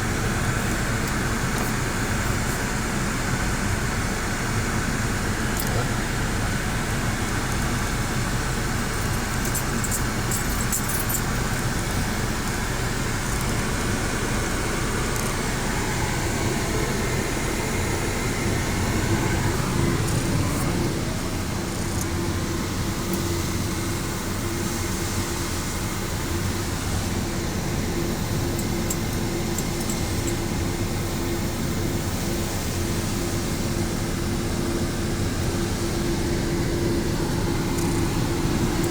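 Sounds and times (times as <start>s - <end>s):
car wash machine and spray: 0.0s - 38.9s
steady hum: 0.0s - 38.9s.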